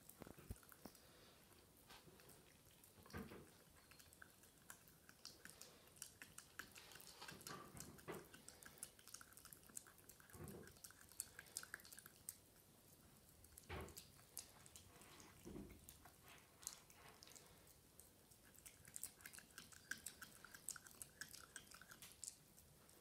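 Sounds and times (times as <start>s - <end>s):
puppy chewing bone wet clicks: 2.5s - 23.0s.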